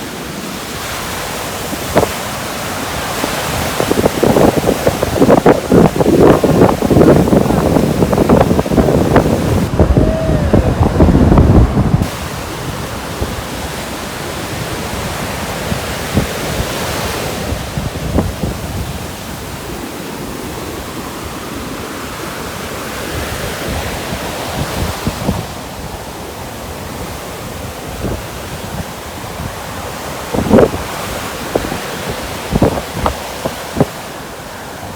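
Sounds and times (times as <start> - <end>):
ocean surf washing in: 0.0 - 34.9
wind buffeting microphone: 1.5 - 21.4, 23.0 - 34.9.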